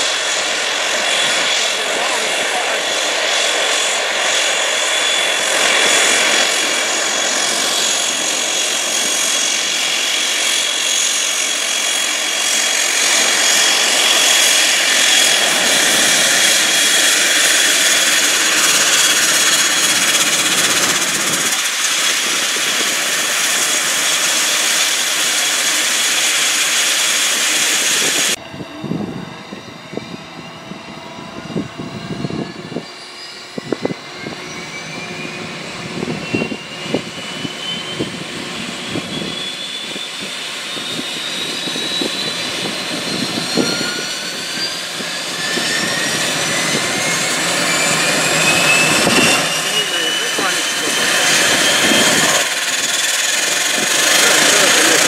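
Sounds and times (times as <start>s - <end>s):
turboprop engines whining: 0.0s - 55.0s.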